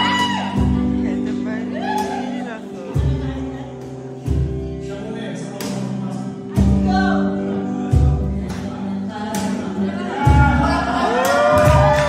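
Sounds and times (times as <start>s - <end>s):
deep low beats: 0.0s - 12.0s
guitar chords: 0.0s - 12.0s
person singing: 0.0s - 12.0s.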